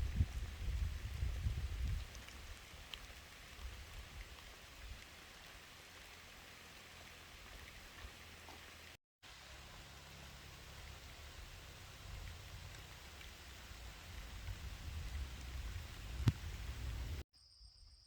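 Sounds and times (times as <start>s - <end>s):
faint steady hiss: 0.0s - 17.2s.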